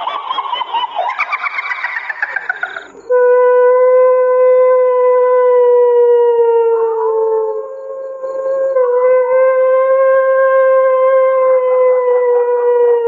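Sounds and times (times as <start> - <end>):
loud steady howling wail: 0.0 - 13.0.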